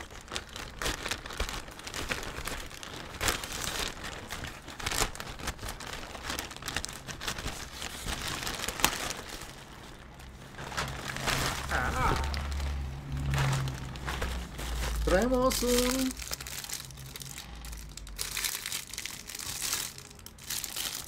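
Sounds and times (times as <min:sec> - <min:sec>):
plastic mailer bag crinkling: 0:00.0 - 0:21.0.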